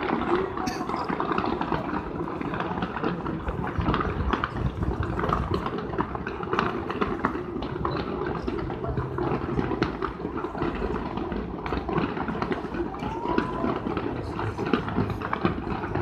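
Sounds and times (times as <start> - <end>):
fireworks crackling and popping: 0.0 - 16.0.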